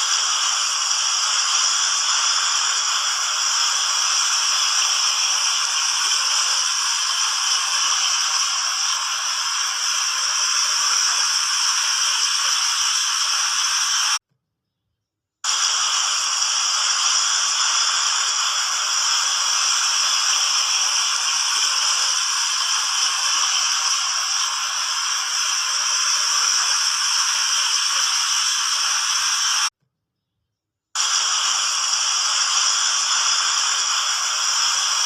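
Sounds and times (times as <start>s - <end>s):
water fountain splashing: 0.0s - 14.2s, 15.6s - 29.7s.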